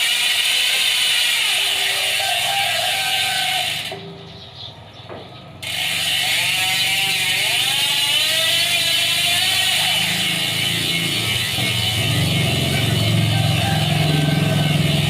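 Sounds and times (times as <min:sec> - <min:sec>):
bicycle hub ratcheting buzz: 0:00.0 - 0:04.3, 0:05.5 - 0:15.0.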